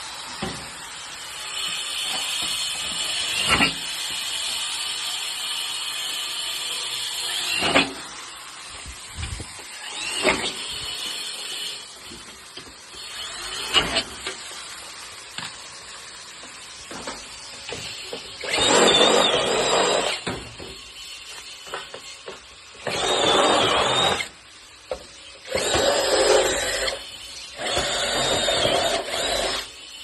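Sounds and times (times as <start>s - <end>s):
small power tool whining: 0.0s - 30.0s.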